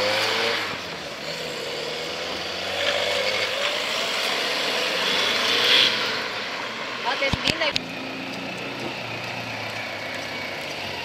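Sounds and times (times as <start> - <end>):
car engine revving: 0.0 - 11.0
other cars passing: 0.0 - 11.0.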